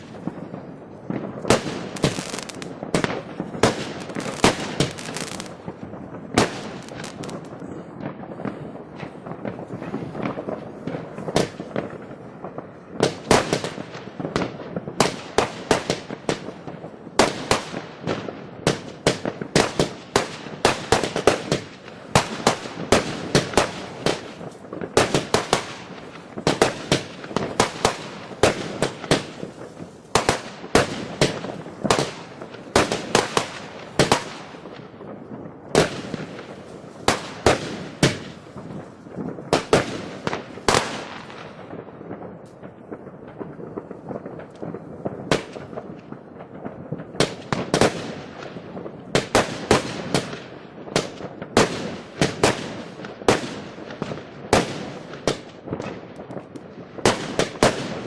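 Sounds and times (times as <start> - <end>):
fireworks banging: 0.0 - 58.0
fireworks crackle: 0.0 - 58.0.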